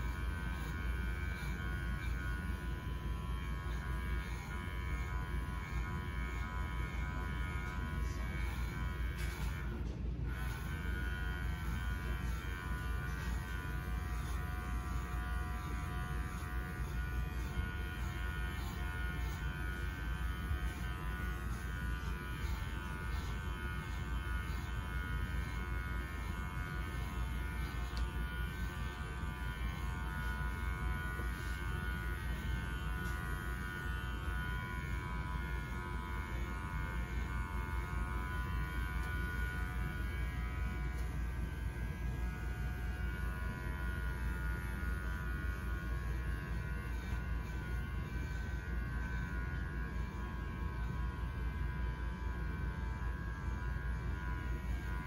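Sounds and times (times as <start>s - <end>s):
electric clippers buzzing: 0.0s - 55.0s.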